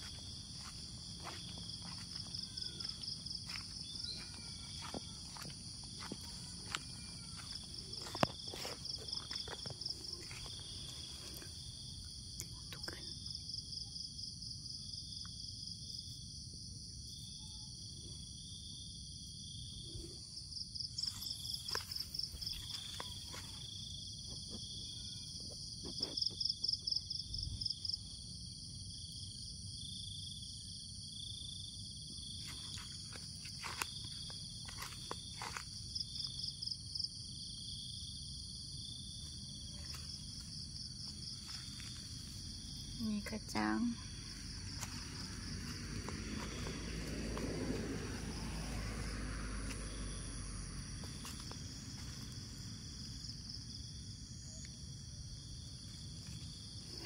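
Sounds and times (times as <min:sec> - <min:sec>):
loud pulsing insect trills: 0:00.0 - 0:12.3, 0:18.4 - 0:57.0
lower cricket chirp: 0:00.0 - 0:57.0
steady high insect trill: 0:00.0 - 0:57.0.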